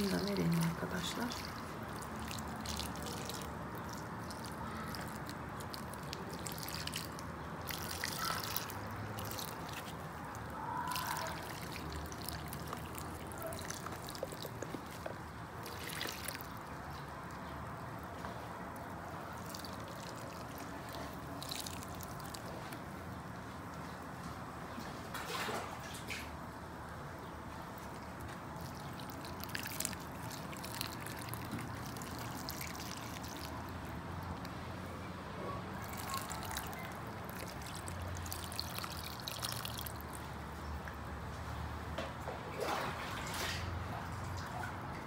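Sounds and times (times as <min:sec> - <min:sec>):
water trickling onto soil: 0:00.0 - 0:24.8, 0:27.4 - 0:34.7, 0:35.8 - 0:41.6.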